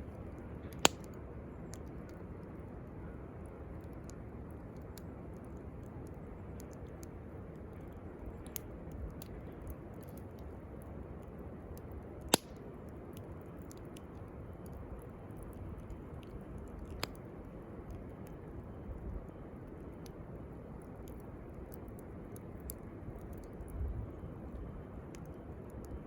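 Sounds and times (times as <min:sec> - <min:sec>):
campfire crackling: 0:00.0 - 0:26.0
fire popping: 0:00.0 - 0:26.0
steady low hiss: 0:00.0 - 0:26.0.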